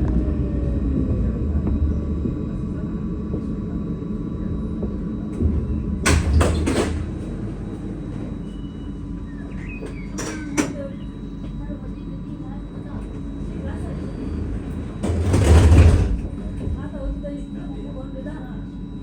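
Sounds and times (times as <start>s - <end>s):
tram rumble: 0.0s - 19.0s.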